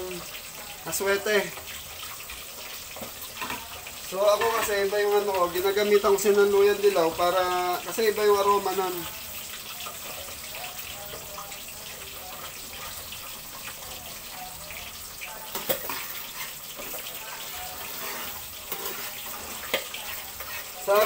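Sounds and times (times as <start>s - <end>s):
sauce simmering in a pan: 0.0s - 21.0s.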